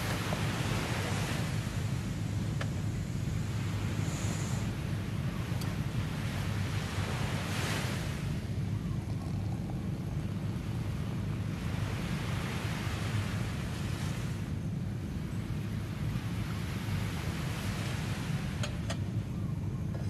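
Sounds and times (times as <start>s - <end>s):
sea waves washing onto beach: 0.0s - 8.8s, 9.9s - 19.0s
wind rumble on microphone: 0.0s - 20.0s.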